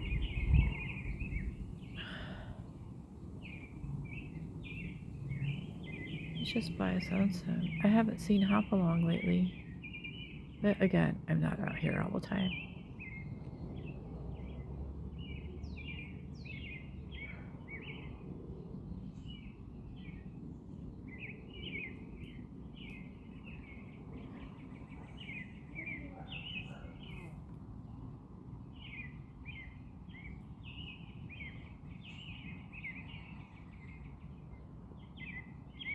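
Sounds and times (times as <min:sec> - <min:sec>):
low background noise: 0:00.0 - 0:35.9
small birds chirping: 0:00.0 - 0:35.9.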